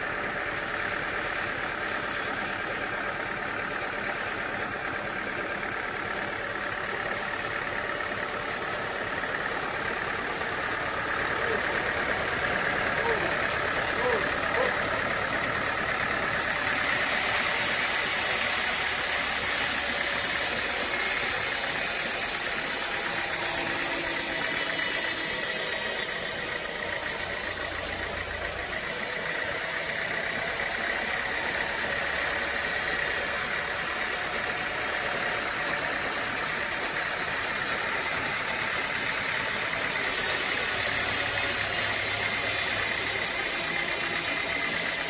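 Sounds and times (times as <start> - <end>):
engine running with hiss: 0.0 - 45.0.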